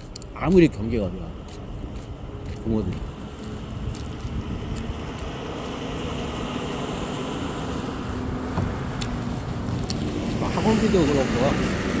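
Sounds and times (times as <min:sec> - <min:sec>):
road traffic noise: 0:00.0 - 0:12.0
vehicle engine hum: 0:00.0 - 0:12.0.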